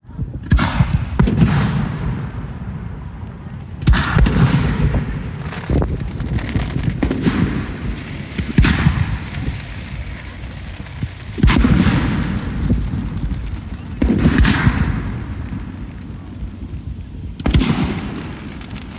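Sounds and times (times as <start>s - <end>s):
fireworks booming and crackling: 0.0s - 18.9s.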